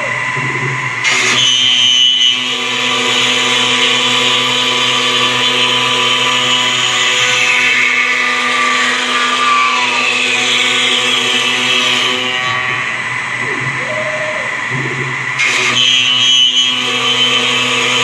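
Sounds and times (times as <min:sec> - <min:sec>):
router spindle whine machining wood: 0:00.0 - 0:18.0.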